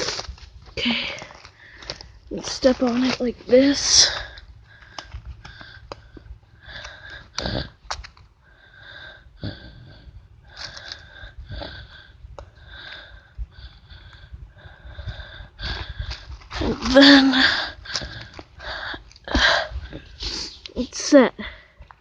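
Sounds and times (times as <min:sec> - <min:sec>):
heavy rhythmic breathing: 0:00.0 - 0:22.0.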